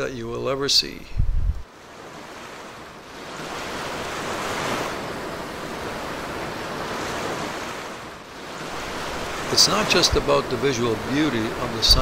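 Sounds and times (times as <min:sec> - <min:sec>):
rushing foaming water: 0:01.8 - 0:12.0.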